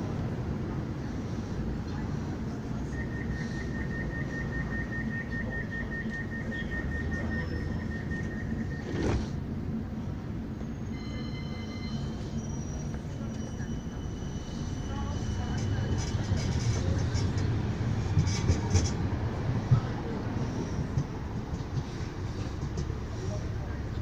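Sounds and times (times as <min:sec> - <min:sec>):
tram rumbling: 0:00.0 - 0:24.0.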